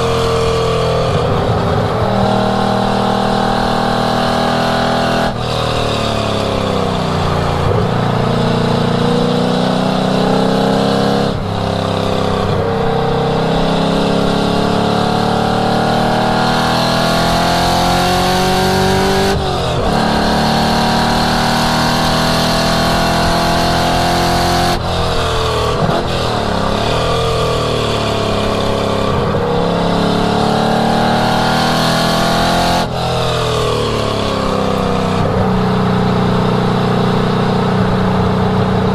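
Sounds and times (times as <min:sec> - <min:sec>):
car engine at full throttle: 0:00.0 - 0:38.9.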